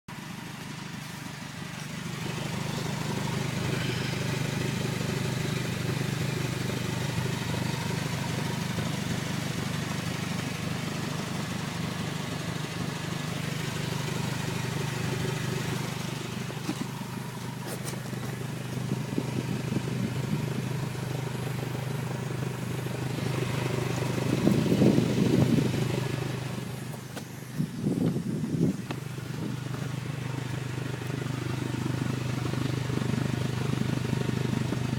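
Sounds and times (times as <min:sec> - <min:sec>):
car engine with exhaust leak: 0:00.1 - 0:34.9.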